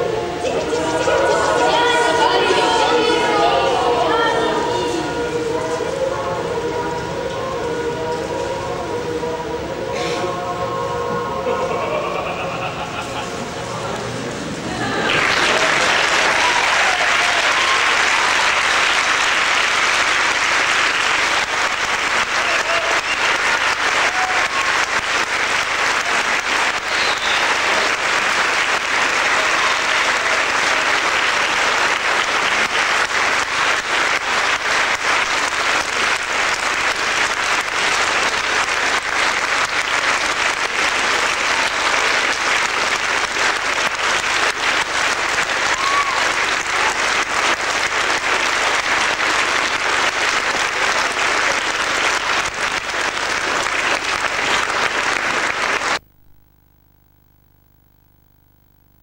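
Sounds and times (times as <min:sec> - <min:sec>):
audience applauding: 0:00.0 - 0:05.6, 0:11.5 - 0:56.1.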